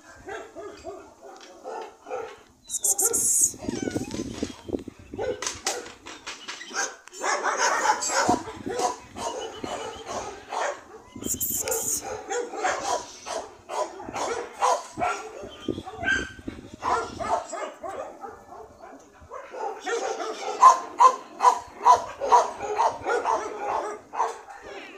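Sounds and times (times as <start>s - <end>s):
dogs barking: 0.0s - 3.5s, 5.1s - 24.9s.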